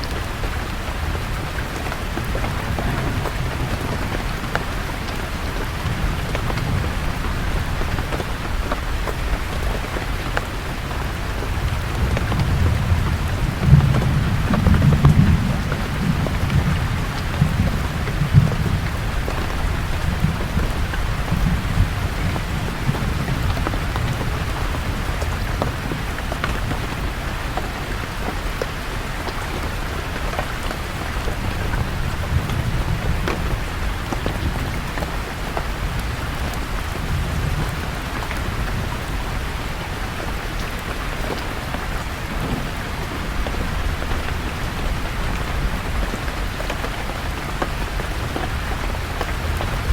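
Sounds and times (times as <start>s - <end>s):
low rumble of thunder: 0.0s - 49.9s
rain falling on leaves: 0.0s - 49.9s.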